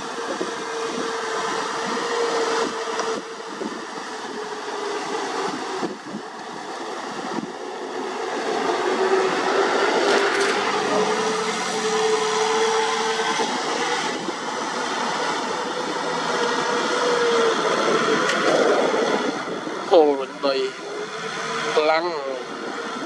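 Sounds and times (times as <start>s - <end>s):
steady whine: 0.0s - 23.0s
tractor diesel engine running: 0.0s - 23.0s.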